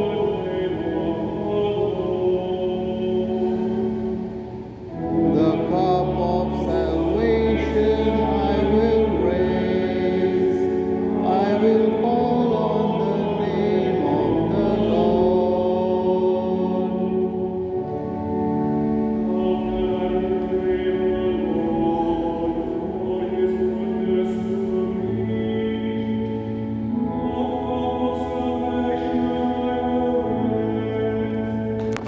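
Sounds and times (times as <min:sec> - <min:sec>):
cantor singing: 0:00.0 - 0:32.0
pipe organ accompaniment: 0:00.0 - 0:32.0.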